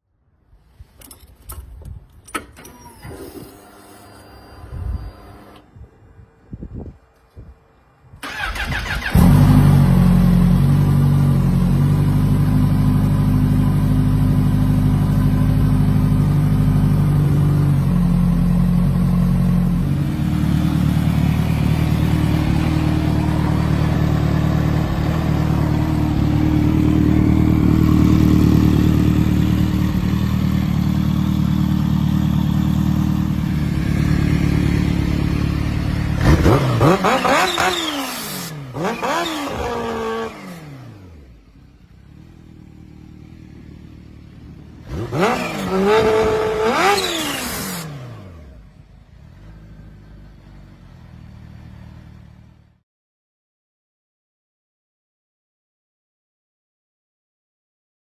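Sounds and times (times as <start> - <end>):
motorcycle engine idling and revving: 5.7 - 52.8.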